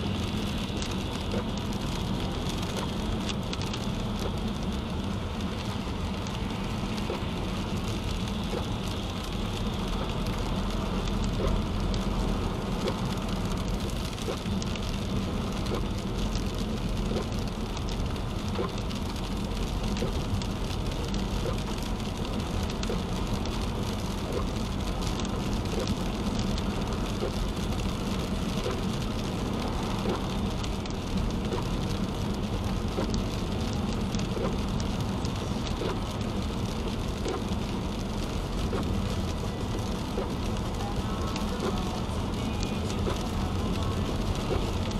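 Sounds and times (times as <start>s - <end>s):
rain on windshield: 0.0s - 44.9s
tyres hissing on wet road: 0.0s - 44.9s.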